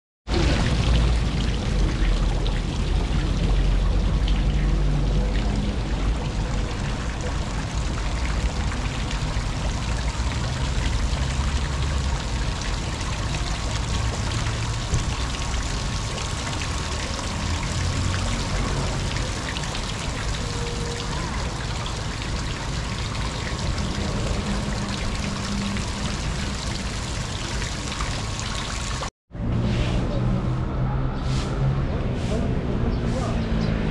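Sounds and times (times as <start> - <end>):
fountain water splashing into pond: 0.3 - 29.1.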